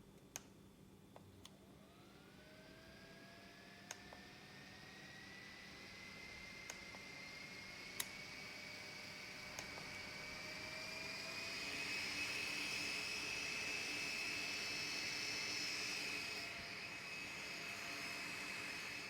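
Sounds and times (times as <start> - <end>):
desk fan motor whine: 1.5 - 19.0.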